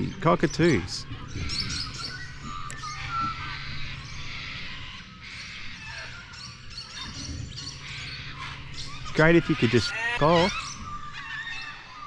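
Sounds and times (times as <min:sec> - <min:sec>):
cockatoos screeching: 0:00.0 - 0:12.0
low steady hum: 0:00.0 - 0:12.0.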